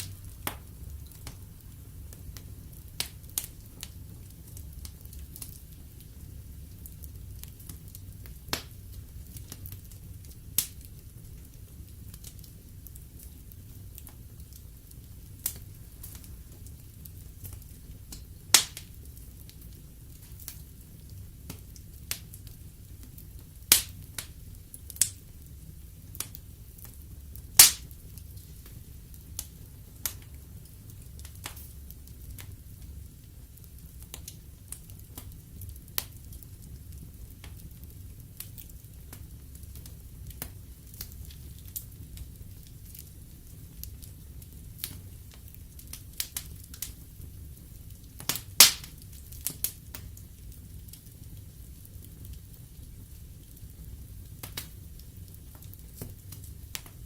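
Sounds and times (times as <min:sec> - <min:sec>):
fire flames rumbling: 0:00.0 - 0:57.0
logs crackling and popping: 0:00.0 - 0:57.0.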